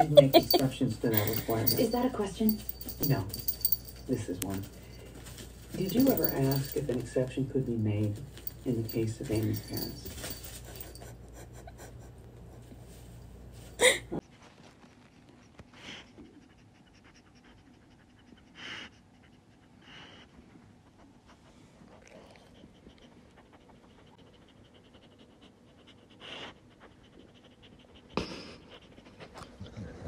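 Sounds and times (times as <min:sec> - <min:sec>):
dog breathing and panting: 0:00.0 - 0:30.0.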